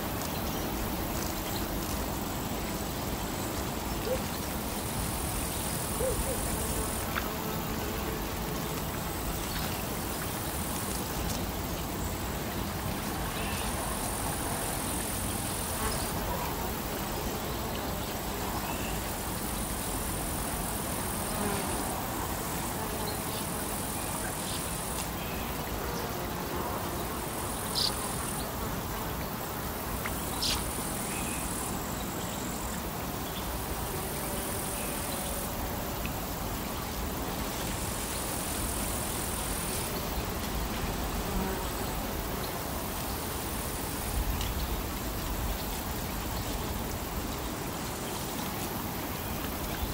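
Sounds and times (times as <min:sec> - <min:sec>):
insects trilling: 0:00.0 - 0:49.9
water: 0:00.0 - 0:49.9
wind: 0:00.0 - 0:49.9.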